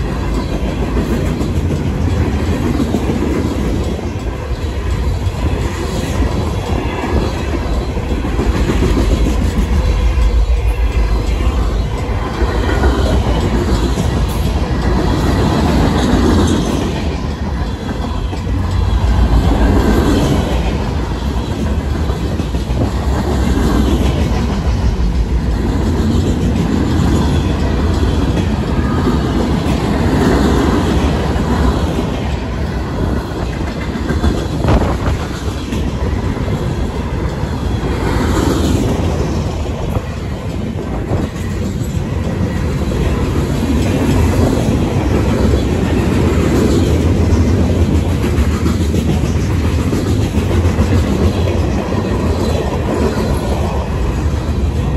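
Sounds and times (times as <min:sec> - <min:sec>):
freight train cars rolling: 0:00.0 - 0:54.9.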